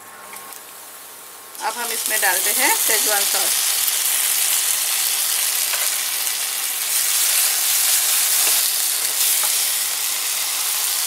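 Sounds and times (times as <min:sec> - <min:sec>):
oil sizzling in wok: 0:00.6 - 0:11.0.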